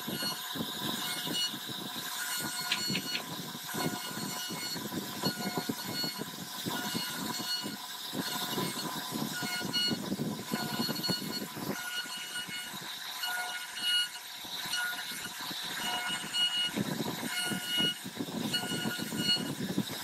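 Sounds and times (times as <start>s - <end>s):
bit carving wood rumble: 0.0s - 20.0s
router spindle whining: 0.0s - 20.0s.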